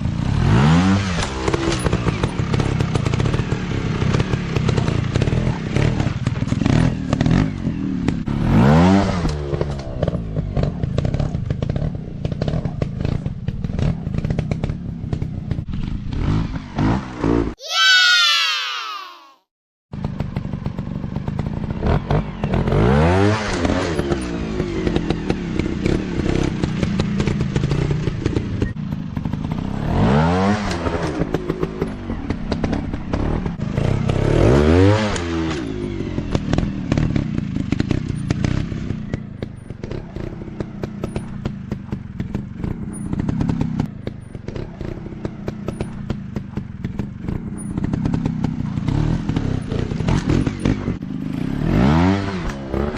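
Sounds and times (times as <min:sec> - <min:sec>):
dirt bike engine revving: 0:00.2 - 0:18.2, 0:20.0 - 0:39.2, 0:42.2 - 0:52.9.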